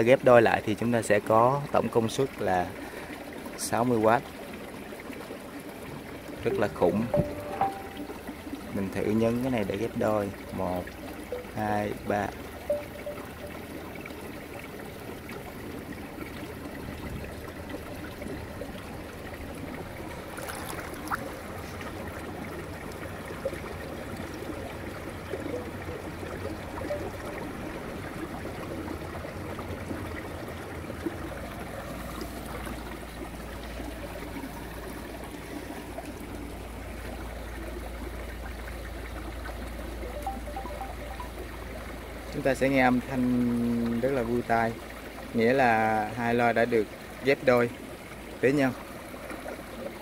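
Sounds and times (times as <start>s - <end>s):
small stream flowing: 0.0s - 50.0s.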